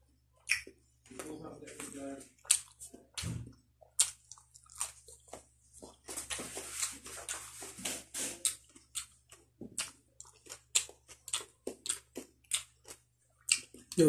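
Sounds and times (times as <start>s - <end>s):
wet chewing and lip-smacking: 0.4s - 0.8s, 2.3s - 7.6s, 8.4s - 14.0s.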